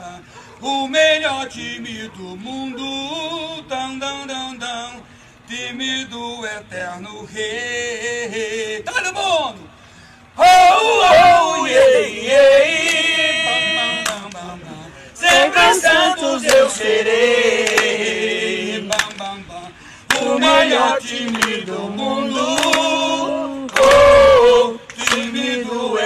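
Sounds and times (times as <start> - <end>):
men singing without instruments: 0.0 - 9.3, 10.4 - 26.0.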